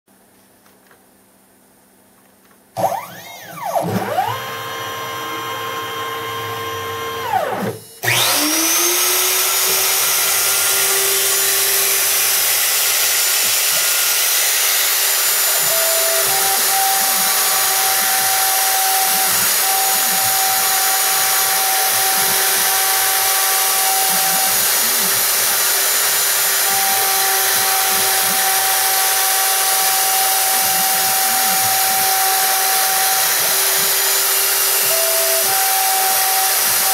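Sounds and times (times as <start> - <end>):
router bit milling: 2.8 - 36.9
router spindle spinning: 2.8 - 36.9
stepper motor whine: 2.8 - 36.9.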